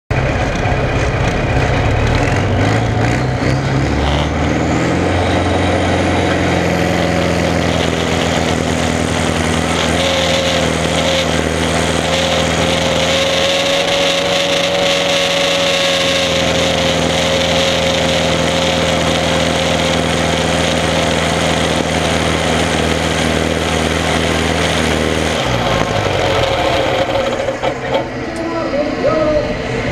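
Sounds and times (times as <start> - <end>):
high whine: 0.1 - 29.9
tractor diesel engine under load: 0.1 - 29.9.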